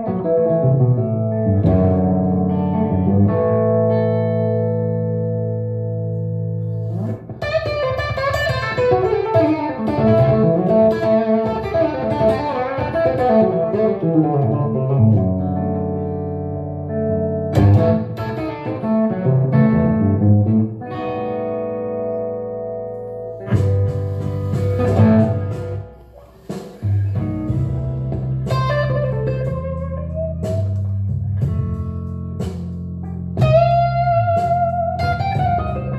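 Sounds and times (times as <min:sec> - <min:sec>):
electric guitar playing blues: 0:00.0 - 0:35.9.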